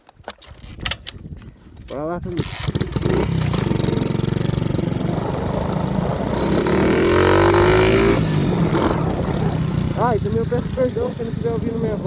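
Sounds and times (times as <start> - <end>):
motorcycle pulling away: 2.3 - 12.0.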